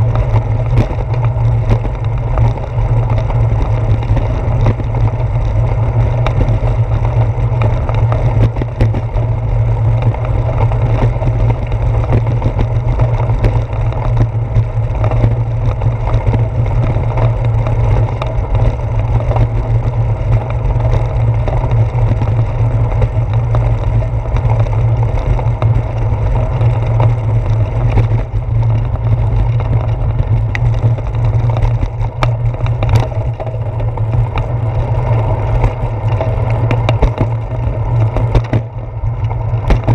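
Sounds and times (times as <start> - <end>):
bicycle rolling over bricks: 0.0 - 39.9
fine rattling and clicking: 0.0 - 39.9.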